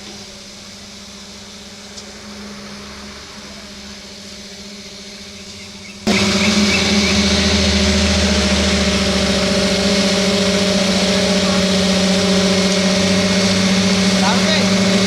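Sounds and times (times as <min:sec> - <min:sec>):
engine running steadily: 0:00.0 - 0:15.0
low rumble: 0:01.5 - 0:15.0.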